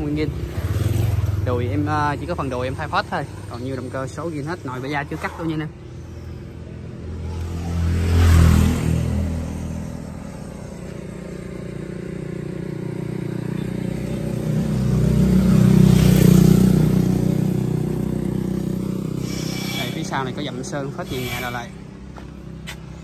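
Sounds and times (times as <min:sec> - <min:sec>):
tractor diesel engine drone: 0:00.0 - 0:23.0.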